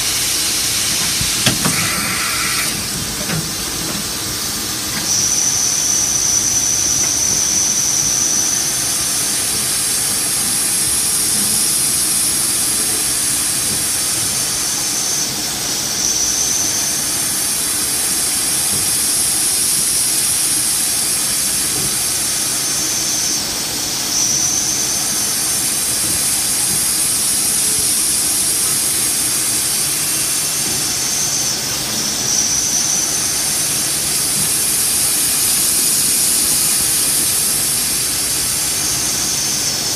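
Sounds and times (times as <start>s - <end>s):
milling machine whine and hiss: 0.0s - 39.9s.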